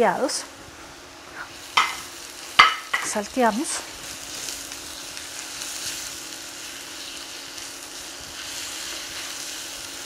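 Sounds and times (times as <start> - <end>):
vegetables sizzling in a pan: 0.1 - 10.0.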